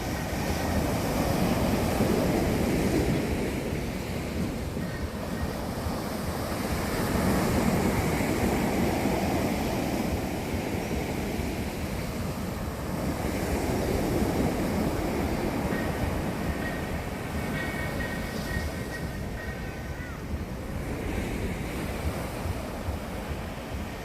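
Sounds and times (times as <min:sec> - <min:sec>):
sea surf washing on shore: 0:00.0 - 0:24.0.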